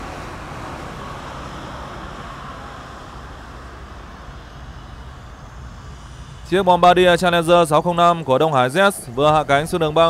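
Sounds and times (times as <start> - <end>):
jet engines hiss and rumble: 0.0 - 10.0.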